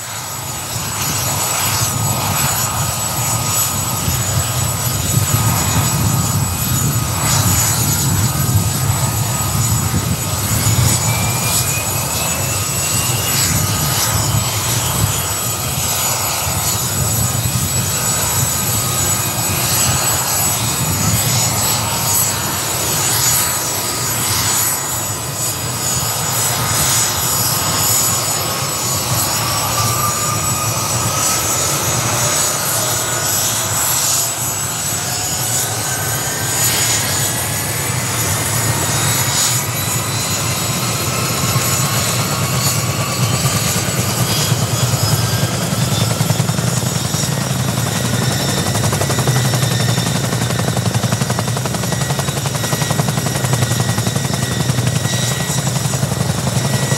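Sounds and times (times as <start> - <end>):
helicopter engine whine: 0.0 - 56.9
helicopter rotor beat: 0.0 - 56.9.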